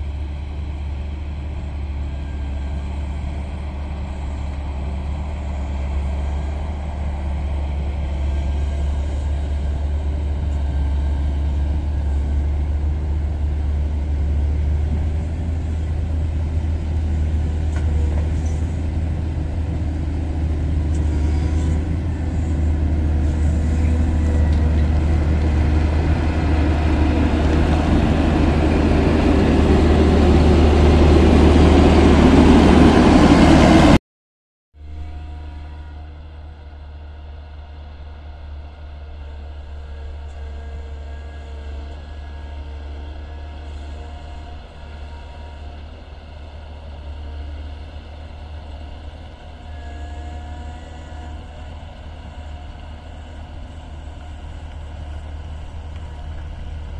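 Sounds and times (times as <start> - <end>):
diesel engine running: 0.0 - 34.0, 34.9 - 56.9.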